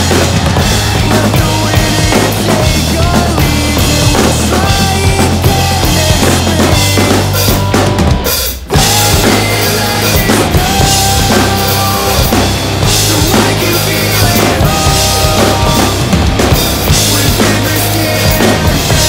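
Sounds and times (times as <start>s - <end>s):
drum kit playing: 0.0s - 19.0s
recorded band track: 0.0s - 19.0s.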